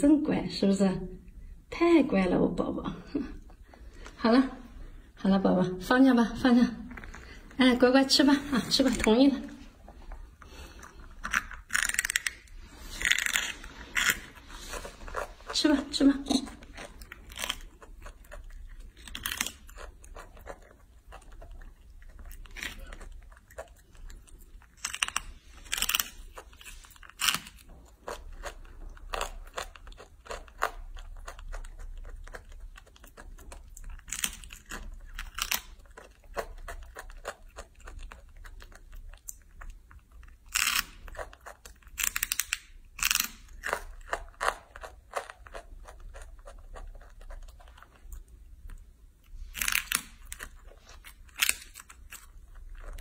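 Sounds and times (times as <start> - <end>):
monkey crunchy chewing: 6.8 - 53.0.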